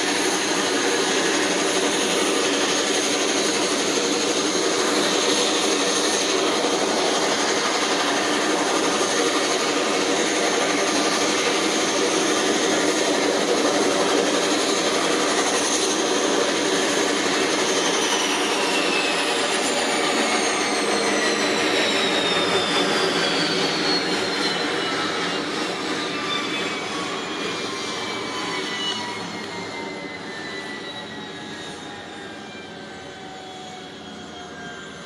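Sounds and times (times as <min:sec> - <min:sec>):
turboprop engines droning: 0:00.0 - 0:35.0.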